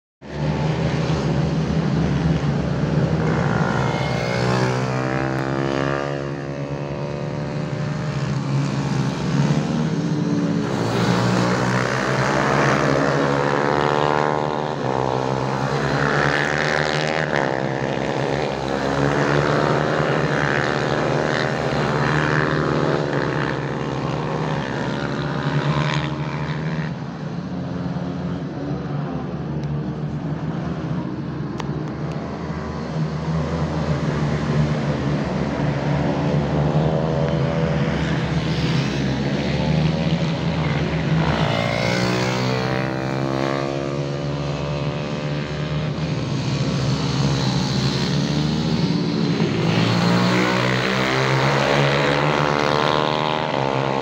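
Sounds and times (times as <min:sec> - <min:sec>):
pit bike engines revving: 0:00.4 - 0:54.0.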